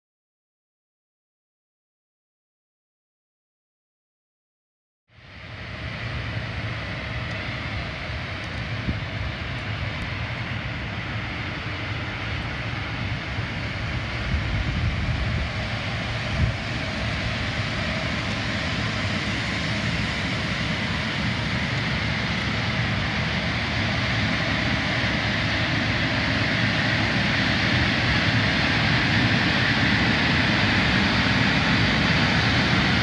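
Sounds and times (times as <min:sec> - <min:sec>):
air conditioner fan and compressor drone: 0:05.1 - 0:33.0.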